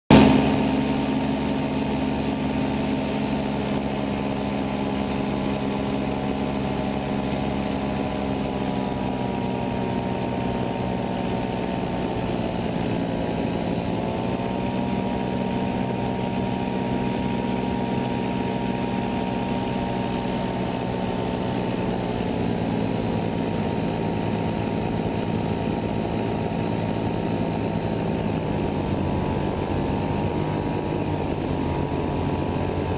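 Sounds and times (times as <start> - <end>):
paramotor engine and propeller: 0.1 - 32.9.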